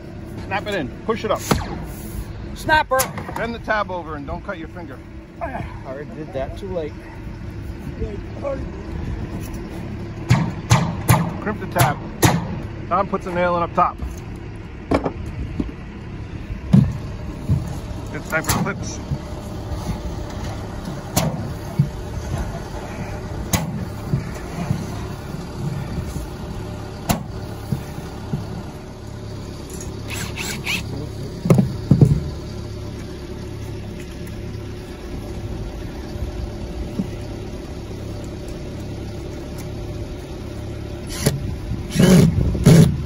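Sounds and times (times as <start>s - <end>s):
low background rumble: 0.0s - 43.0s.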